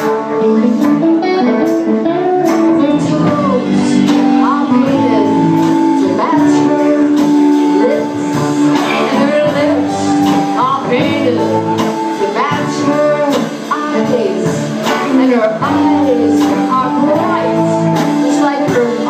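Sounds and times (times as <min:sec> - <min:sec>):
live rock band playing: 0:00.0 - 0:19.0
person singing: 0:00.0 - 0:19.0.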